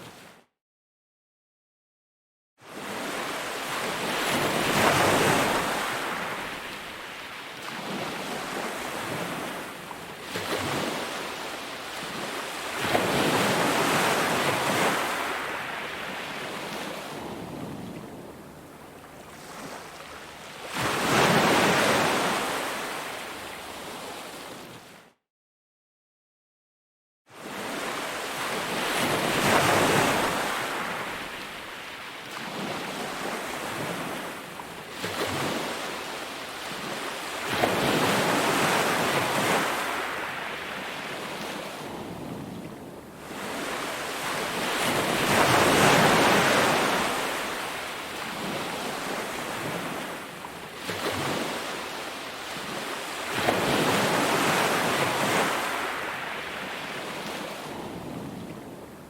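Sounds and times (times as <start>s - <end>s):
sea waves breaking on beach: 2.6s - 25.0s, 27.4s - 59.0s.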